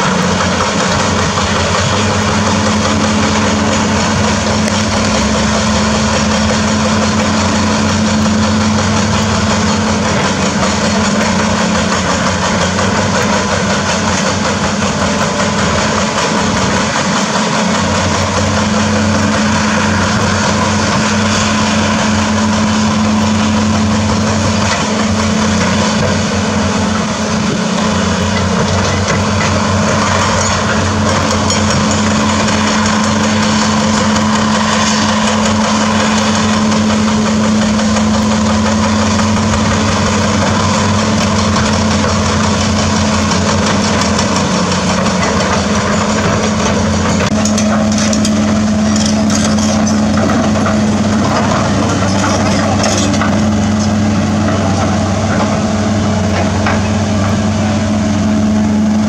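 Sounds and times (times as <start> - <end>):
heavy diesel engines droning: 0.0 - 59.0.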